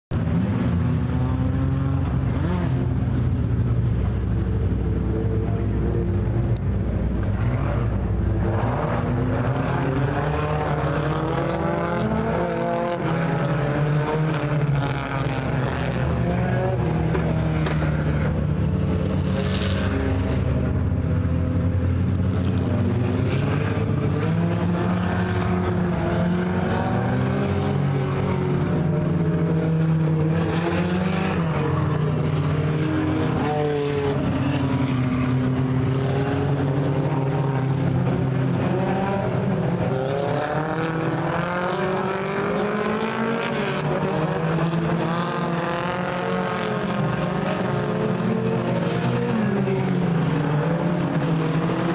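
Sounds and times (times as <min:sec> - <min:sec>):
race car engines: 0:00.1 - 0:51.9.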